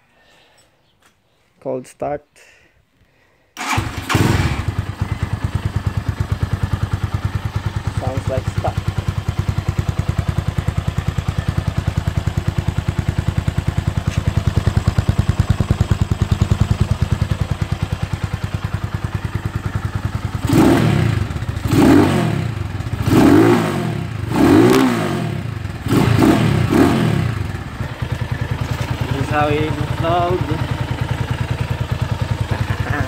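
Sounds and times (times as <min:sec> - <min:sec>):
motorcycle engine idling: 0:03.6 - 0:33.0
motorcycle throttle revving: 0:03.6 - 0:33.0.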